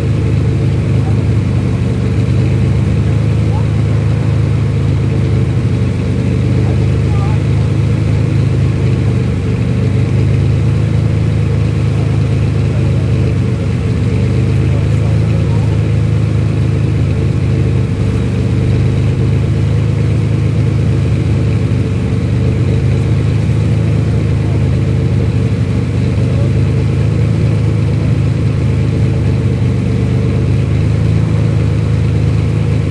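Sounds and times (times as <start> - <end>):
car engines idling: 0.0 - 32.9.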